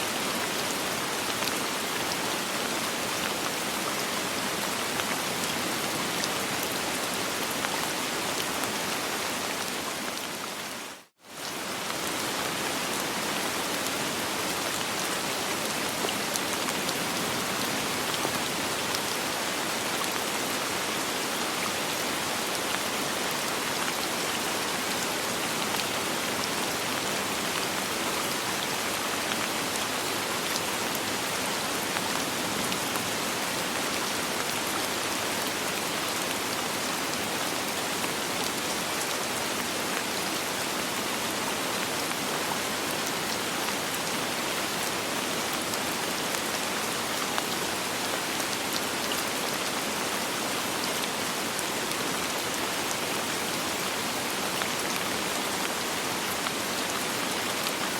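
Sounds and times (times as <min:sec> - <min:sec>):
soft rain falling: 0:00.0 - 0:57.9.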